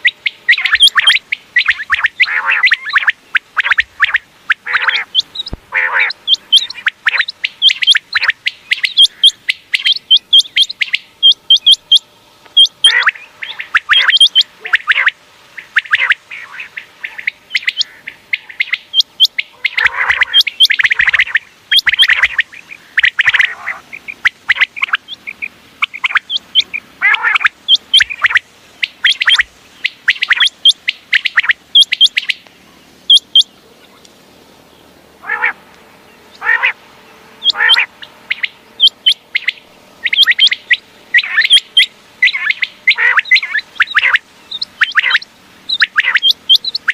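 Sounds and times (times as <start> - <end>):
quail chirping calls: 0.0 - 34.1, 35.2 - 36.8, 37.4 - 46.9.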